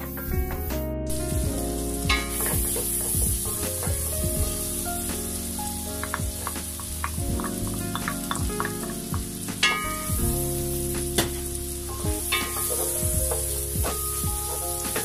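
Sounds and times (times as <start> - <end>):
onion sizzling in oil: 1.6 - 15.0.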